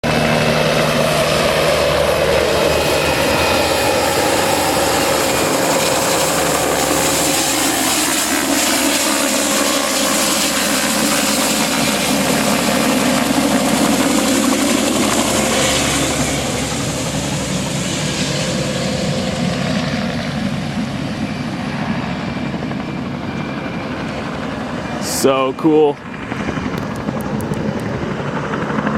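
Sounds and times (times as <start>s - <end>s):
helicopter rotor and turbine: 0.0s - 28.9s.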